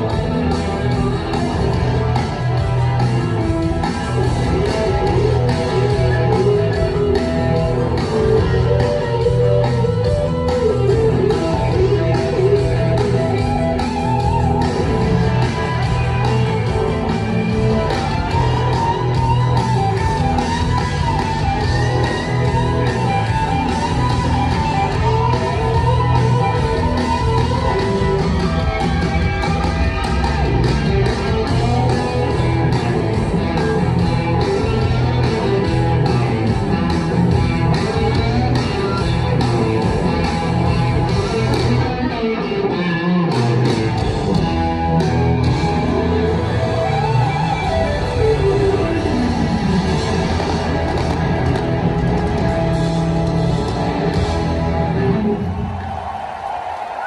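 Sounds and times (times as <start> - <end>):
live rock band playing: 0.0 - 56.5.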